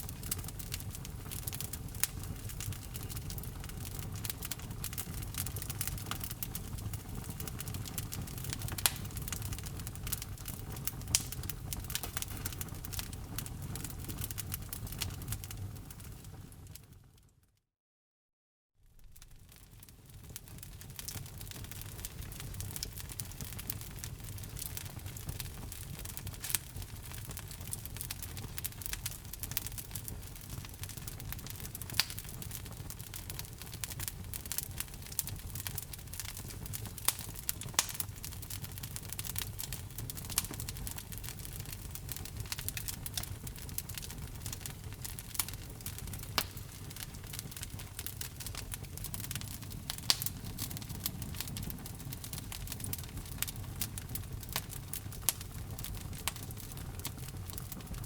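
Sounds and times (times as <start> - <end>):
wood fire crackling: 0.0 - 17.0, 18.9 - 58.0
low rush of flame: 0.1 - 16.7, 18.9 - 58.0.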